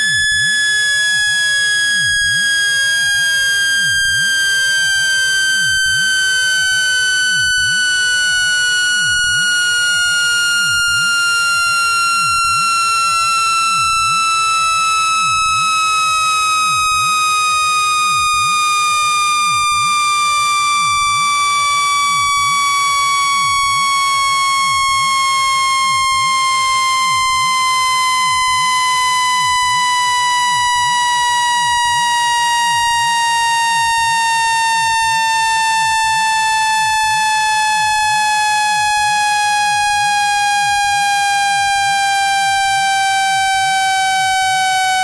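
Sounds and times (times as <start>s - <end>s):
harsh electronic tone falling in pitch: 0.0s - 45.0s.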